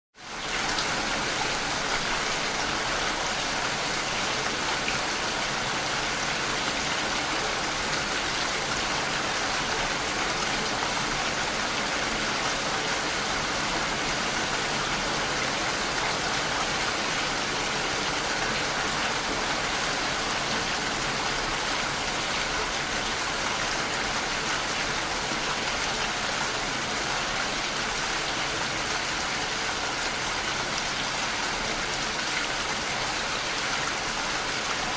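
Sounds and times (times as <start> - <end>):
rushing water: 0.2 - 34.9.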